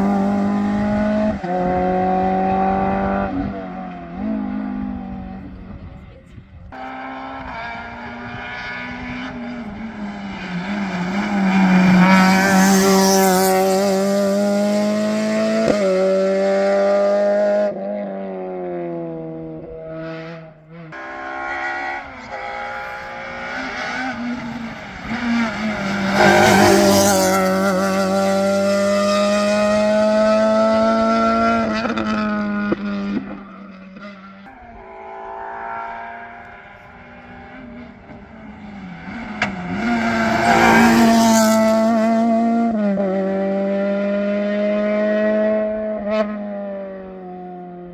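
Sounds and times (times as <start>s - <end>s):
rally car engines at full throttle: 0.0s - 47.9s.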